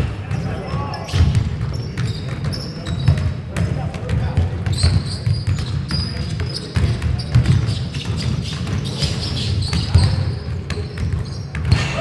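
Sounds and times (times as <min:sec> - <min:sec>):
sneakers squeaking: 0:00.0 - 0:12.0
basketball dribbling on wood floor: 0:00.3 - 0:11.8.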